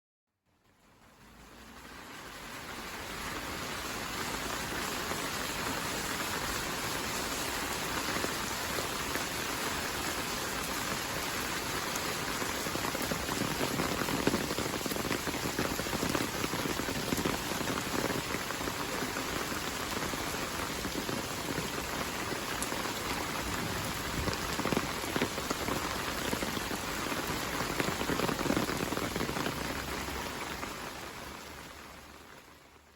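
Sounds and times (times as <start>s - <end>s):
heavy rain falling: 0.6s - 32.9s.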